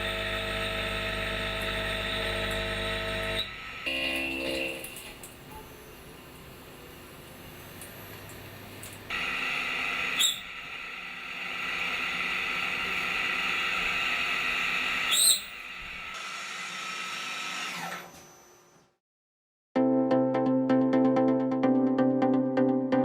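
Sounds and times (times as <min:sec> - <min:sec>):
metal lathe machining whine: 0:00.0 - 0:18.9.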